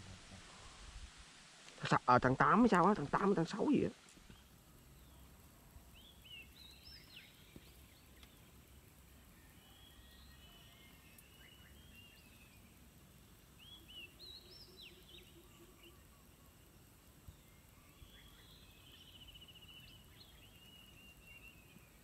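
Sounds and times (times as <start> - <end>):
faint bird chirps: 3.2 - 22.0.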